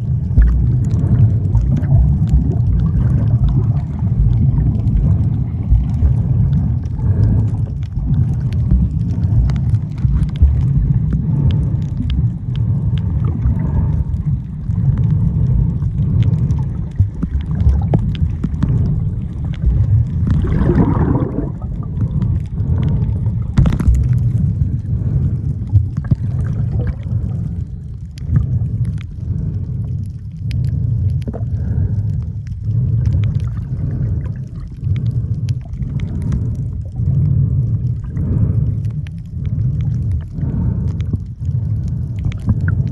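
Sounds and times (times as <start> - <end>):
bubbling gurgle: 0.0 - 29.6, 32.6 - 42.9
small clicks and crackles: 0.0 - 42.9
underwater water rumble: 0.0 - 42.9.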